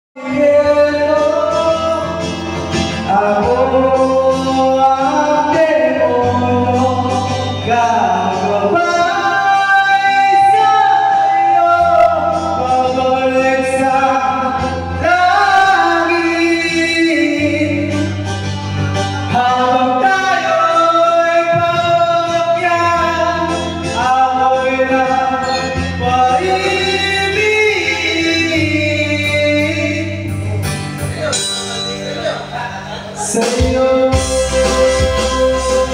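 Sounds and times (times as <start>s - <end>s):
instrumental accompaniment: 0.2s - 35.9s
man singing into microphone: 0.2s - 35.9s.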